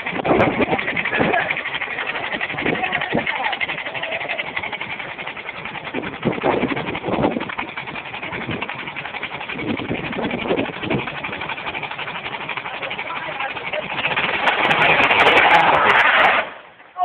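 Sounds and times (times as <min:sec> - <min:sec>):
car engine on rev limiter: 0:00.0 - 0:16.8.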